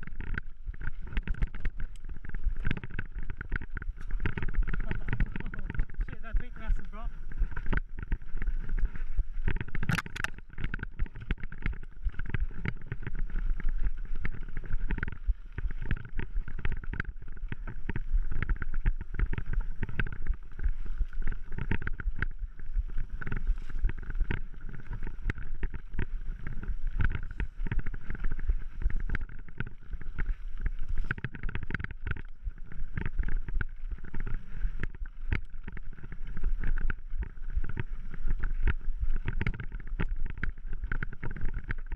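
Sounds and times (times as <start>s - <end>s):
bike rattling and clattering: 0.0s - 41.9s
tyres rumbling on dirt trail: 0.0s - 41.9s.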